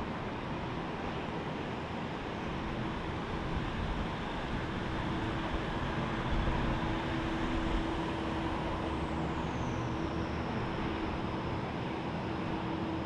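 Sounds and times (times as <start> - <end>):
high engine whine: 0.0 - 13.0.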